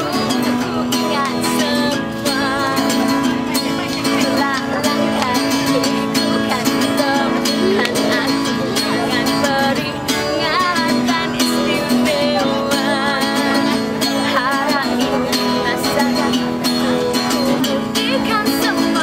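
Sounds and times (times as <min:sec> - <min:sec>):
guitar accompaniment: 0:00.0 - 0:19.0.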